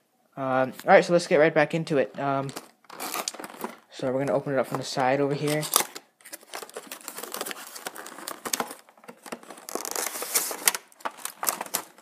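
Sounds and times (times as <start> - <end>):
cardboard and plastic rustling: 2.1 - 12.0.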